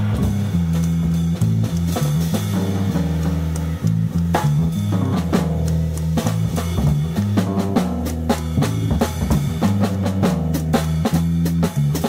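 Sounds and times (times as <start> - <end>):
drum kit: 0.0 - 12.0
electric bass guitar: 0.0 - 12.0.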